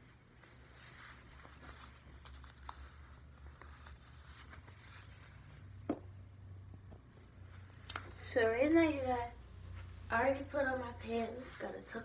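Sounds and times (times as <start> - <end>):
clothing rustling: 0.0 - 6.2, 7.0 - 12.0
low steady hum: 0.0 - 12.0.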